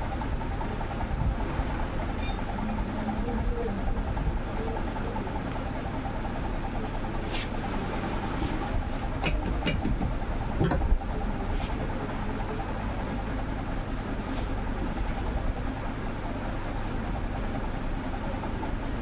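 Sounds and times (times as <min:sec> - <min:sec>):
steady rumbling: 0:00.0 - 0:19.0.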